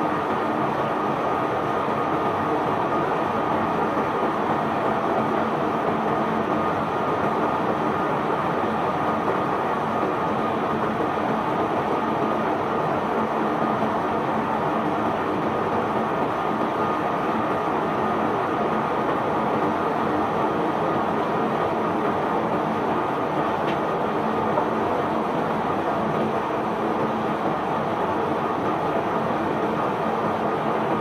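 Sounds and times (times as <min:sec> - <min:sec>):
thin steady whine: 0:00.0 - 0:31.0.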